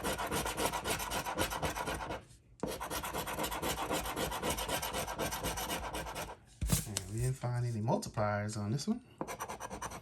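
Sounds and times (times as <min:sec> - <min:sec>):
scratch card being scratched: 0:00.0 - 0:07.3, 0:09.2 - 0:10.0.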